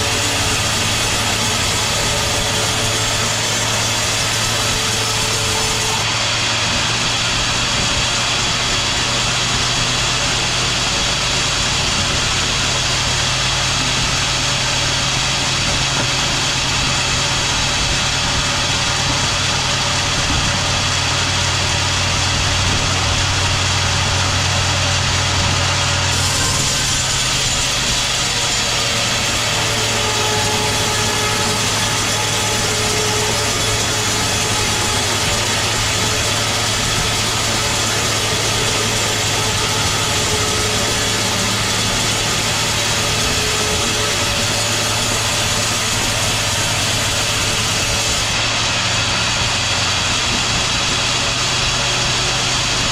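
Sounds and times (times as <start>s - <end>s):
sawmill machinery humming: 0.0s - 52.9s.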